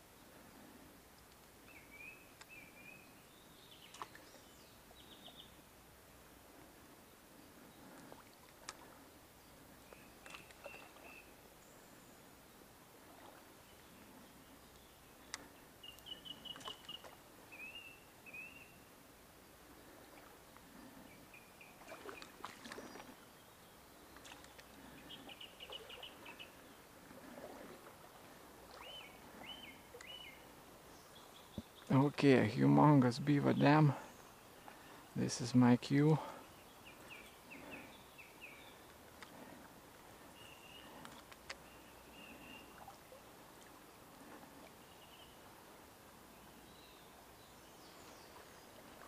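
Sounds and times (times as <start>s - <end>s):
creek ambience: 0.0s - 49.0s.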